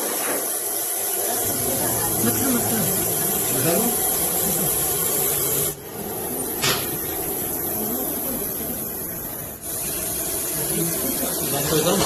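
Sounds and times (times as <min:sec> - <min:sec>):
steady background noise: 0:01.0 - 0:12.0.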